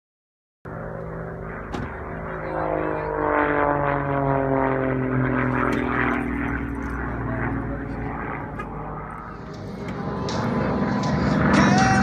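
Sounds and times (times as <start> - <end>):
propeller airplane flying past: 0.7 - 12.0.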